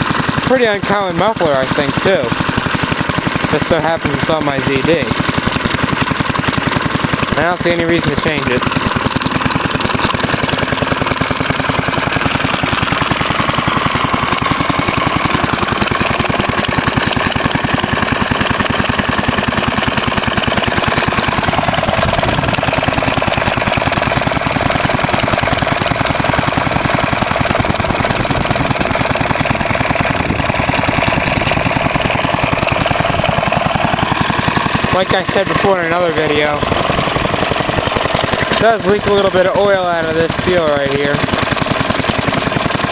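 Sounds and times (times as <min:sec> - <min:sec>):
single-cylinder engine running: 0:00.0 - 0:42.9.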